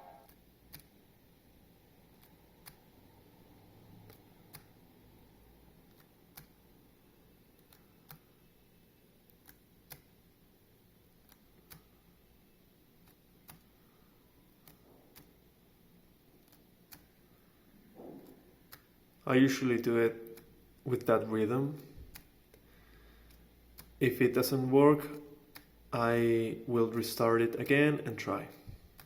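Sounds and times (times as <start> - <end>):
low room noise: 0.0 - 29.0.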